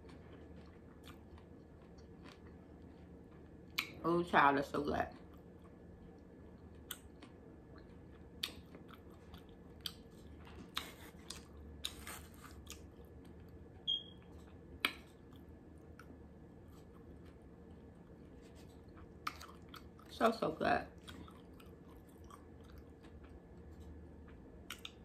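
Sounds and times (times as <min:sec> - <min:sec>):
person chewing food: 0:00.0 - 0:04.0, 0:05.1 - 0:20.1, 0:20.9 - 0:25.0.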